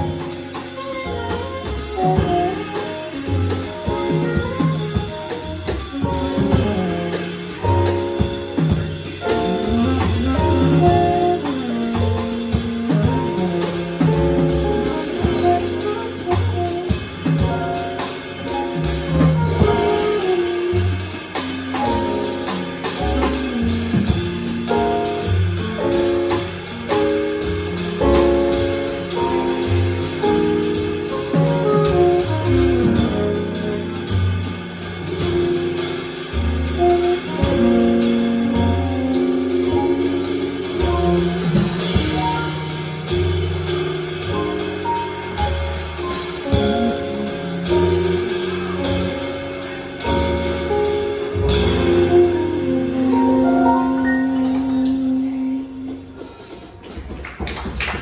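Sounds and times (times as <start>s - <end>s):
saxophone: 0.0s - 57.0s
upright bass: 0.0s - 57.2s
drum kit with cymbals: 0.0s - 58.0s
piano: 0.0s - 58.0s.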